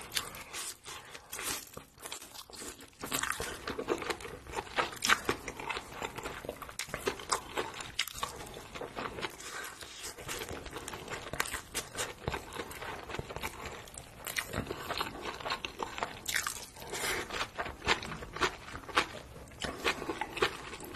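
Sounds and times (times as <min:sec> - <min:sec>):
chewing with mouth clicks: 0:00.0 - 0:20.9.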